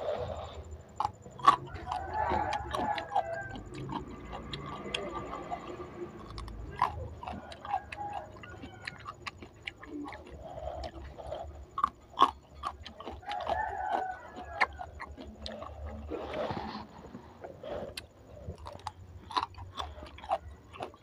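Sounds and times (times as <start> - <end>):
crunchy chewing of raw bean: 0.0 - 21.0.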